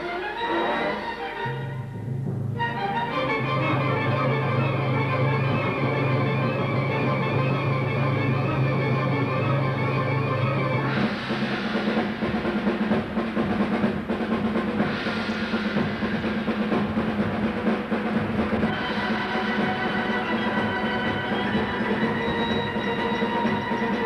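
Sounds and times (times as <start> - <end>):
rapid drum roll: 1.8 - 24.0.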